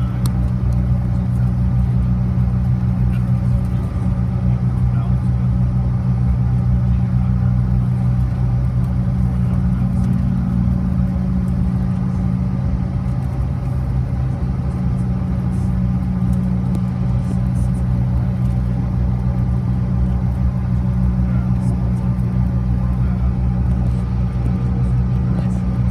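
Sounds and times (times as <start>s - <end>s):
deep hum: 0.0s - 25.9s
jet engine drone in cabin: 0.0s - 25.9s.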